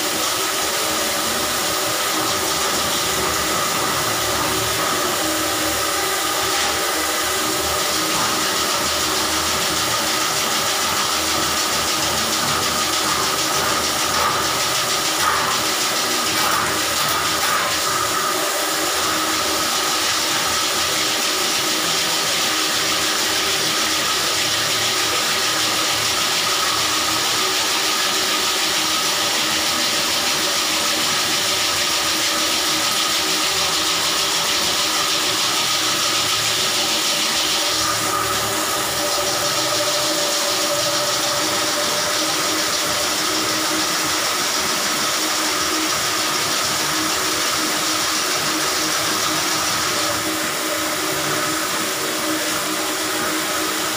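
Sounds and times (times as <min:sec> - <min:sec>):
drain-cleaning machine motor: 0:00.0 - 0:53.9.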